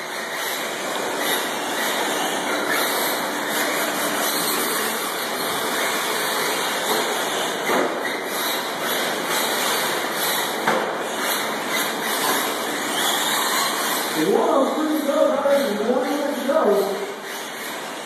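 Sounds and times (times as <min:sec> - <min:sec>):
rc truck motors and tyres hissing: 0:00.0 - 0:18.0.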